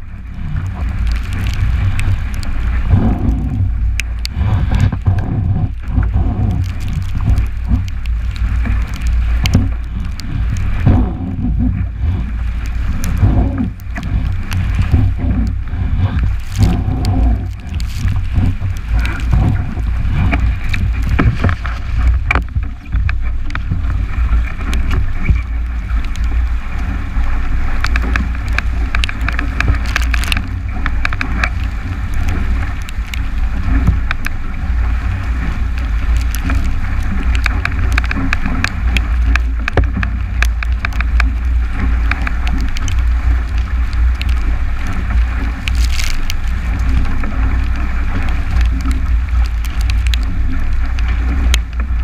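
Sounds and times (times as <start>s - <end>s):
sharp splashes and knocks: 0.0s - 52.0s
water rushing against hull: 0.0s - 52.0s
wind buffeting microphone: 0.0s - 52.0s.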